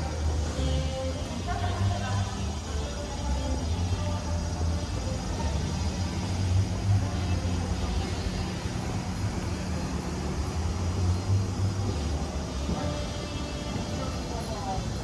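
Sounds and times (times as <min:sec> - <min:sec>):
city street noise: 0:00.0 - 0:15.0
vehicle engine droning: 0:00.0 - 0:15.0.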